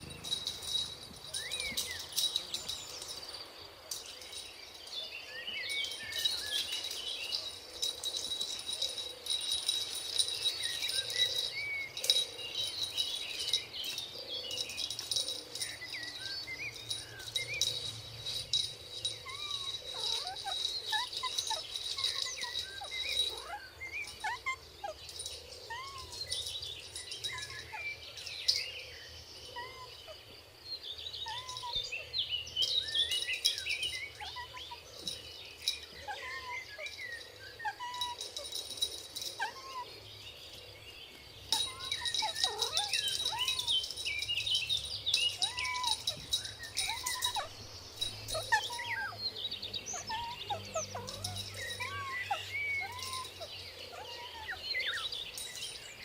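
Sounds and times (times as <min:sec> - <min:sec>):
chirping animal calls: 0:05.8 - 0:30.3, 0:31.2 - 0:40.7, 0:41.4 - 0:55.8.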